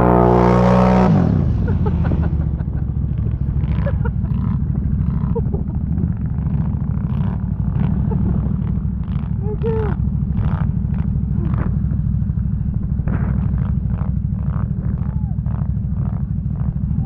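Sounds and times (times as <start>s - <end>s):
atv engine idling: 1.0s - 17.0s.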